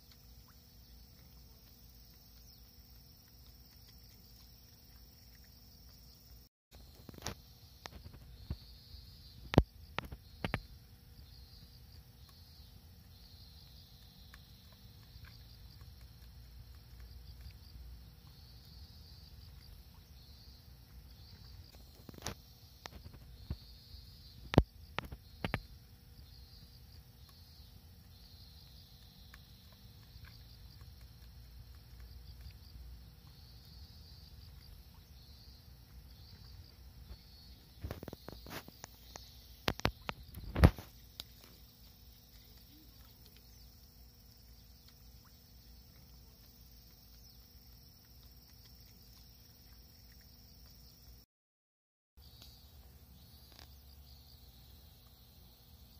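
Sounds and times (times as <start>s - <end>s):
insects chirring: 0.0s - 51.2s, 52.2s - 55.9s.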